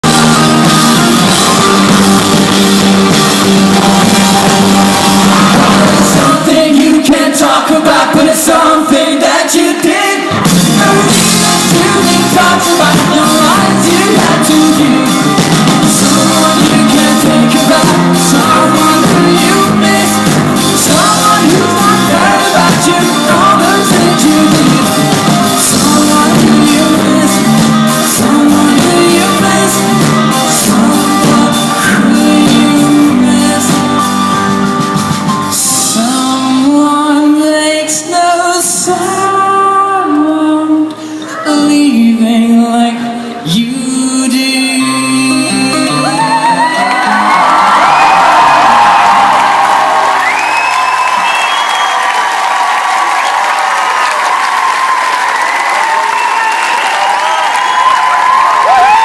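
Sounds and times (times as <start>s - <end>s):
rock band playing live: 0.0s - 8.4s, 9.8s - 39.9s, 43.2s - 59.0s
lead singer singing: 0.0s - 34.7s, 35.3s - 52.2s.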